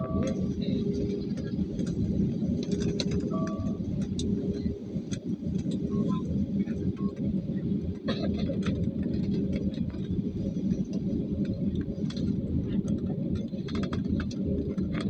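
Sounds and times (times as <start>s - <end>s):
faint steady hum: 0.0s - 15.0s
low engine and wheel rumble: 0.0s - 15.0s.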